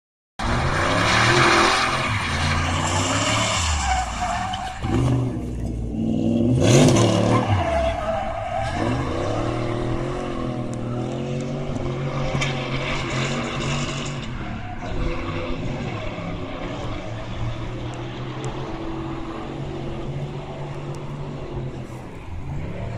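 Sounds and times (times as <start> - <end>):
car engine revving: 0.4 - 22.9
tyres squealing and skidding: 0.4 - 22.9.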